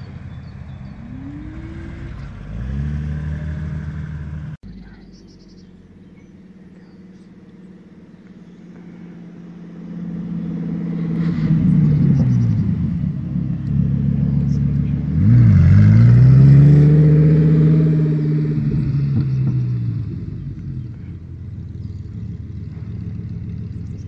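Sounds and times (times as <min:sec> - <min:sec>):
car accelerating past: 0:00.0 - 0:04.6, 0:07.6 - 0:24.0
sports car engine passing: 0:00.0 - 0:24.0.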